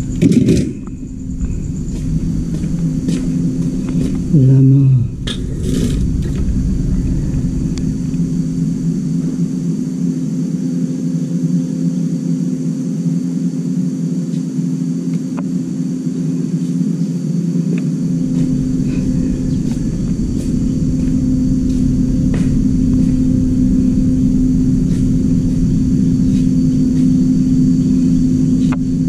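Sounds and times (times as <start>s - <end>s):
electrical machine hum: 0.0s - 29.0s.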